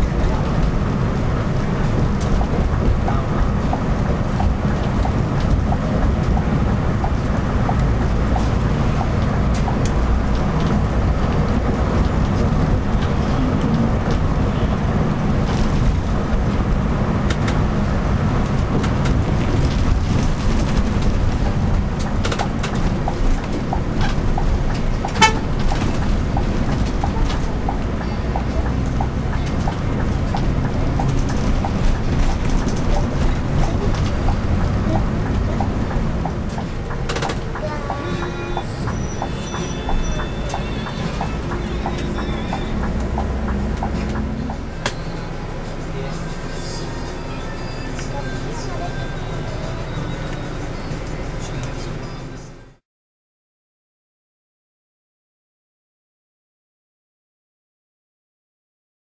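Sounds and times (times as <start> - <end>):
coach engine and road rumble: 0.0 - 52.8.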